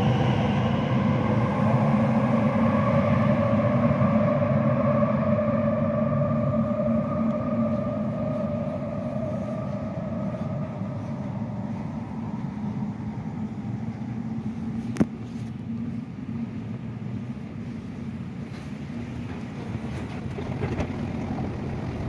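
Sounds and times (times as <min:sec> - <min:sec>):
electric train whine: 0:00.0 - 0:22.0
underground station rumble and hum: 0:00.0 - 0:22.0.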